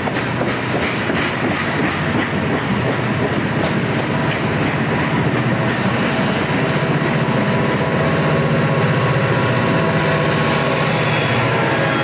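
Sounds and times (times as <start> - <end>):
diesel locomotive engines droning: 0.0 - 12.0
train wheels rumbling on rails: 0.0 - 12.0.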